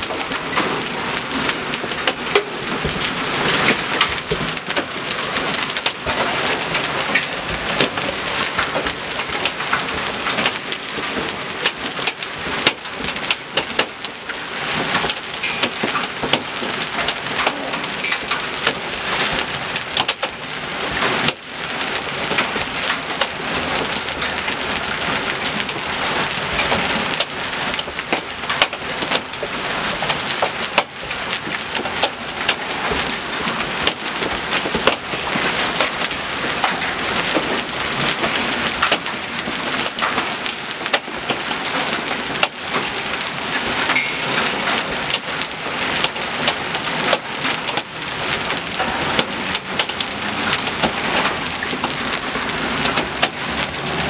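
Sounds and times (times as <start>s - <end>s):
hail and rain pelting pavement: 0.0s - 54.0s.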